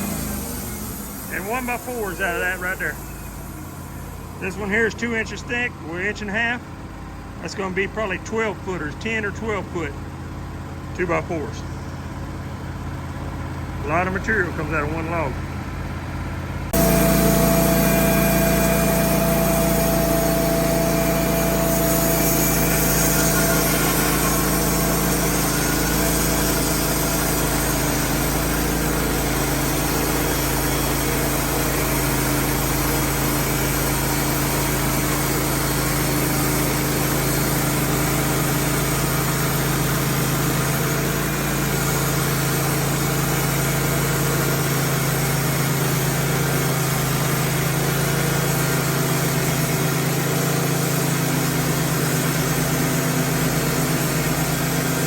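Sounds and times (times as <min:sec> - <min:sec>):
band sawmill engine droning: 0:00.0 - 0:55.0.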